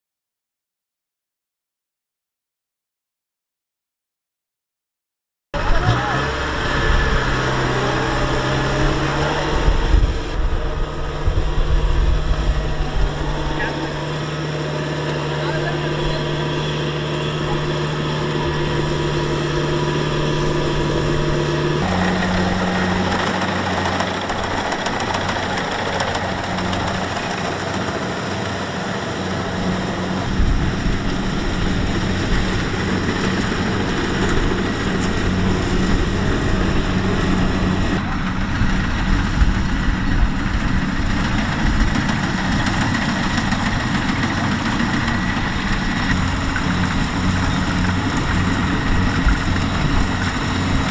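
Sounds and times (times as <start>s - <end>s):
combine harvester engine running: 5.6s - 50.9s
machinery rattling: 5.6s - 50.9s.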